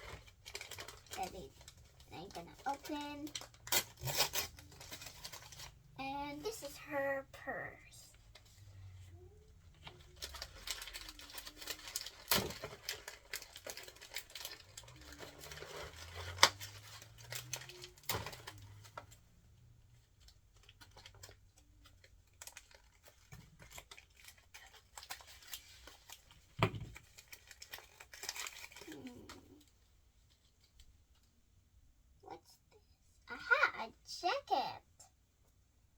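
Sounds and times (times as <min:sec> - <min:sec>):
plastic packaging rustling and crinkling: 0:00.0 - 0:06.8, 0:08.1 - 0:31.3.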